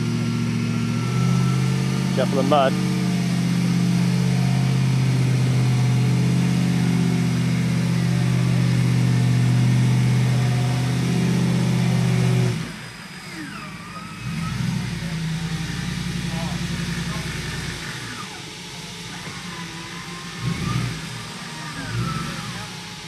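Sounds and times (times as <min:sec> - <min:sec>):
truck engine under load: 0:00.0 - 0:23.0.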